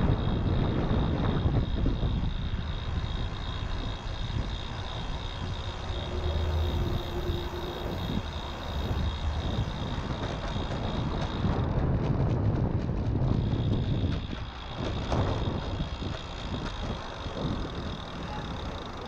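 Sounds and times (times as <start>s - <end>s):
bike tyres humming on pavement: 0.0s - 19.0s
wind rushing over microphone: 0.0s - 19.0s.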